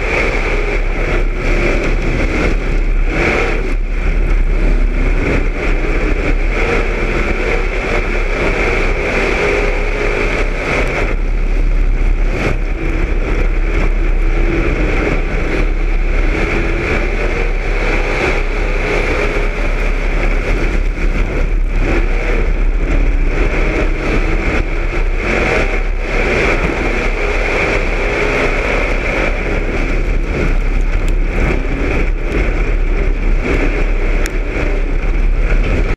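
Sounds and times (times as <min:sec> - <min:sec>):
race car engine running hard: 0:00.0 - 0:35.9.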